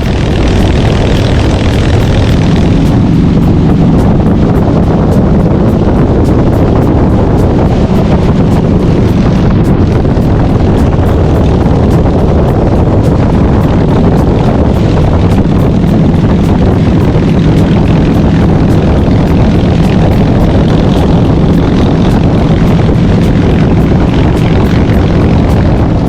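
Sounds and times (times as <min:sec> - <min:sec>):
motorcycle engine drone: 0:00.0 - 0:26.0
rushing wind noise: 0:00.0 - 0:26.0.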